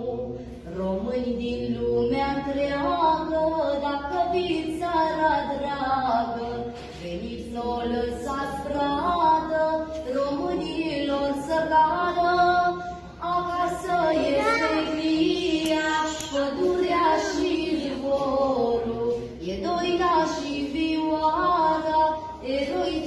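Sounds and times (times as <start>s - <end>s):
woman singing: 0.0s - 23.0s.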